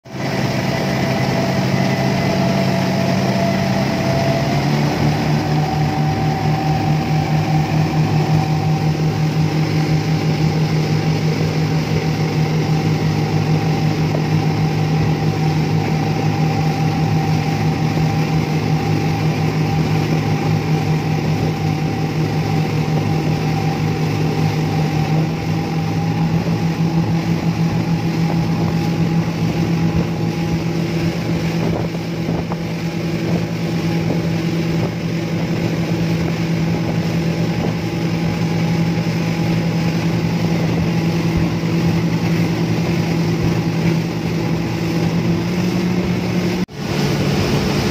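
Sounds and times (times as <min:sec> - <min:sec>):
hull and wake rushing: 0:00.0 - 0:47.9
outboard motors running: 0:00.0 - 0:47.9.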